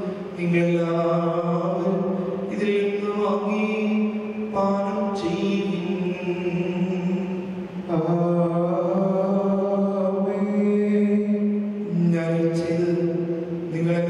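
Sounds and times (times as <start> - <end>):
slow liturgical chant: 0.0 - 14.0.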